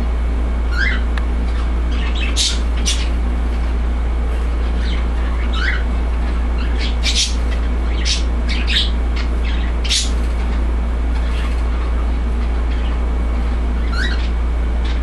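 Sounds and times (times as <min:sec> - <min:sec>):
steady low hum: 0:00.0 - 0:15.0
small birds chirping: 0:00.7 - 0:15.0.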